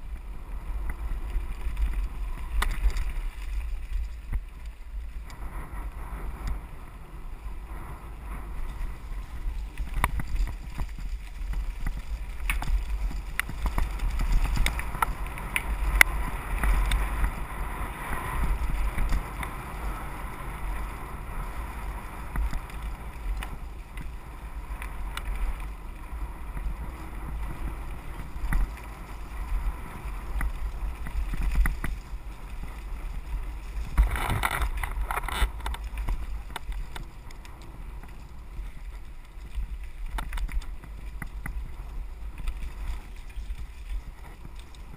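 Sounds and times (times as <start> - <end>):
bike clicks and rattles: 0.0 - 44.9
wind buffeting microphone: 0.0 - 44.9.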